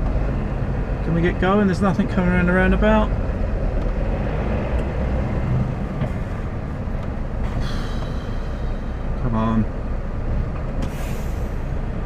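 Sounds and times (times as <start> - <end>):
lorry engine running: 0.0 - 12.0.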